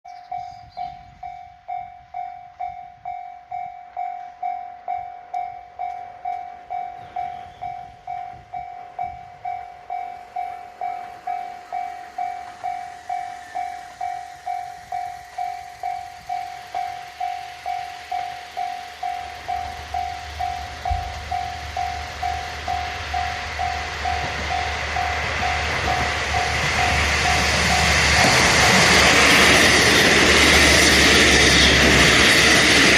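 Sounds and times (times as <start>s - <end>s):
diesel train approaching: 0.1s - 32.9s.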